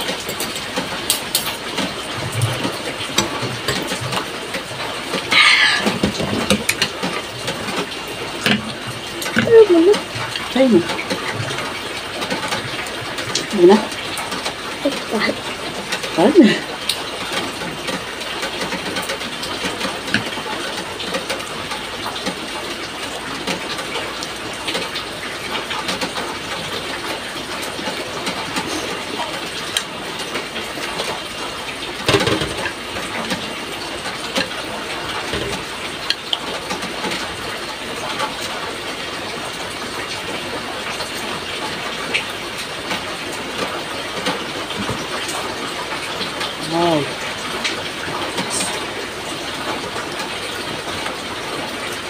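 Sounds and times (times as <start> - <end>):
clicks and knocks of eating: 0.0 - 38.5, 42.1 - 46.6.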